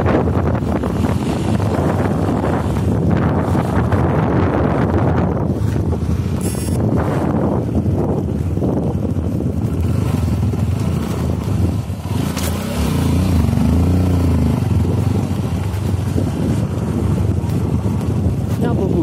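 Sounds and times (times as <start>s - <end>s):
motorcycle engine revving: 0.0s - 8.0s, 8.6s - 19.0s.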